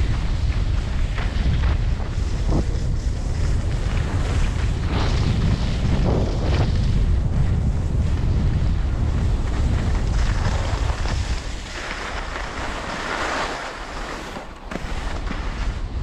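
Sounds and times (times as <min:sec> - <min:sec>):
skis scraping over packed snow: 0:00.0 - 0:16.0
wind buffeting microphone: 0:00.0 - 0:16.0.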